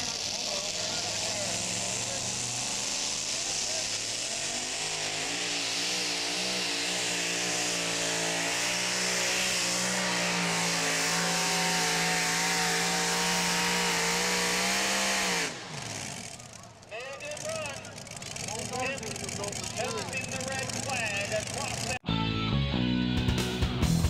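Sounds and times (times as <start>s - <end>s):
truck engine at full power: 0.0s - 24.0s.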